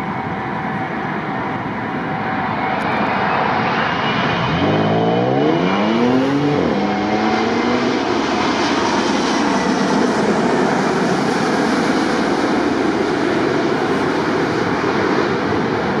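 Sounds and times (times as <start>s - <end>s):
jet airliner roar overhead: 0.0s - 16.0s.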